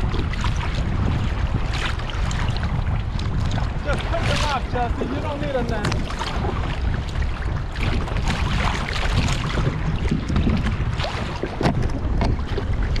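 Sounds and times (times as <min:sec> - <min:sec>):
waves splashing against kayak: 0:00.0 - 0:13.0
wind buffeting microphone: 0:00.0 - 0:13.0.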